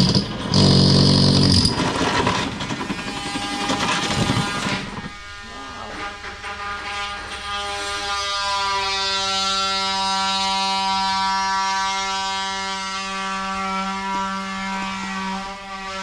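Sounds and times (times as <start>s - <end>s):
machine hum with buzzing tone: 0.0s - 16.0s.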